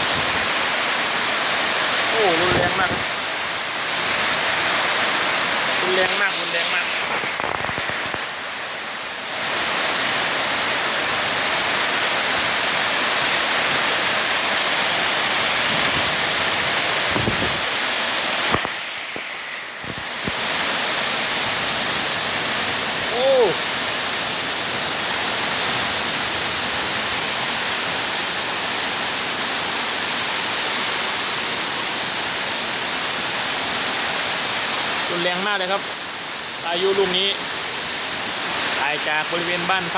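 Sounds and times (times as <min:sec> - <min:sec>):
heavy rain: 0:00.0 - 0:39.9
wind: 0:00.0 - 0:39.9.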